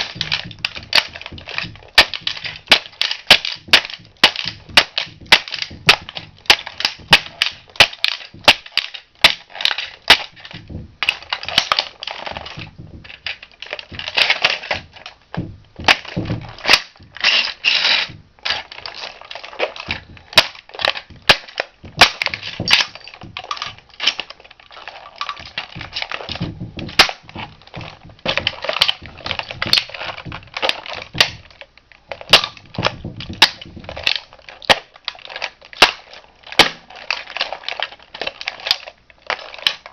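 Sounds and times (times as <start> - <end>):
toy car snapping and cracking: 0.0 - 39.9.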